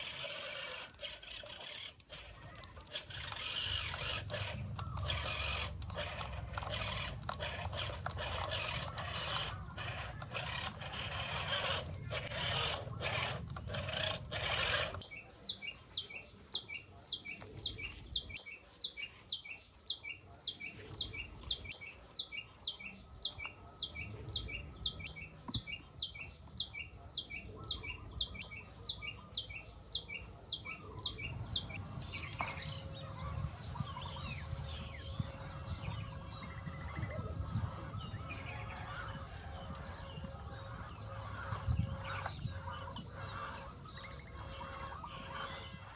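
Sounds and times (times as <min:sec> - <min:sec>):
bird chirping: 0:00.0 - 0:45.9.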